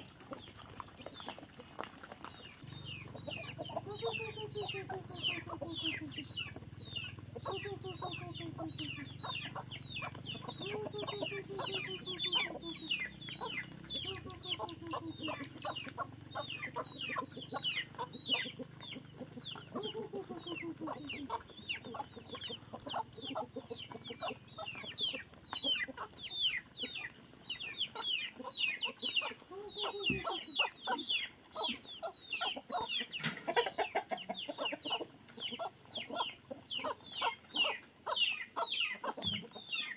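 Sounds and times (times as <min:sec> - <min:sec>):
chickens clucking: 0:00.0 - 0:39.9
chicks chirping: 0:00.0 - 0:39.9.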